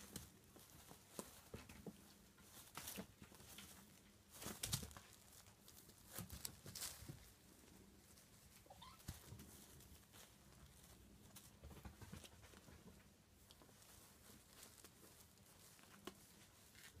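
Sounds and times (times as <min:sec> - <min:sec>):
kittens scuffling on cloth: 0:00.0 - 0:17.0.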